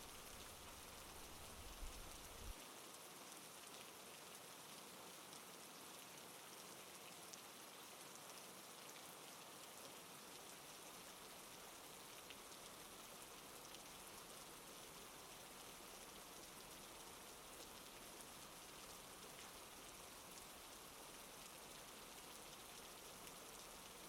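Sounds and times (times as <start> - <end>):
rain pattering on a surface: 0.0 - 24.0.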